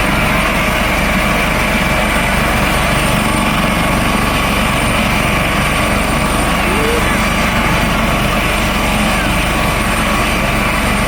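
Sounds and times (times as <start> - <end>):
helicopter rotor and turbine: 0.0 - 11.0.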